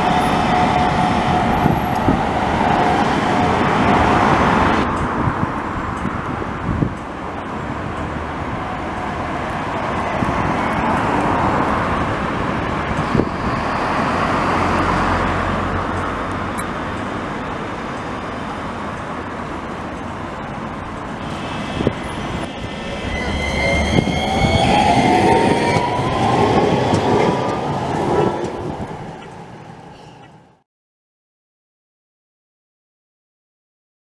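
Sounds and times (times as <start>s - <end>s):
cars driving past: 0.0s - 29.9s
tram whine: 0.0s - 30.6s.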